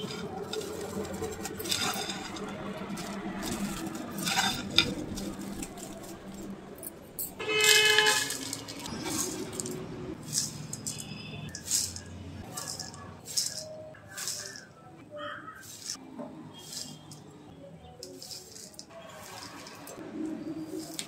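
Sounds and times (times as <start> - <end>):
spoon scraping against pan: 0.0 - 6.5, 7.4 - 17.2, 18.0 - 20.0
puffed rice rustling in a pan: 0.0 - 6.6, 7.5 - 17.2, 18.0 - 21.0.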